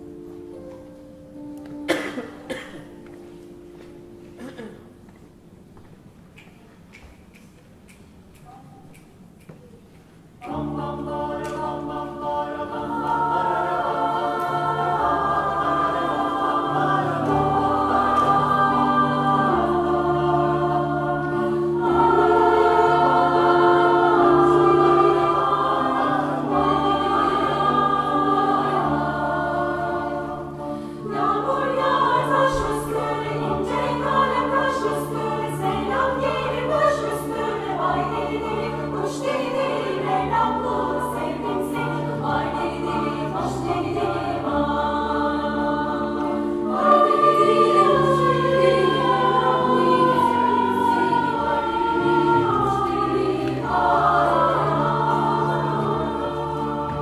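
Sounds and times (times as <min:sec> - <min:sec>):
piano accompaniment: 0:00.0 - 0:06.9, 0:07.7 - 0:57.0
choir singing: 0:01.4 - 0:03.7, 0:10.4 - 0:57.0.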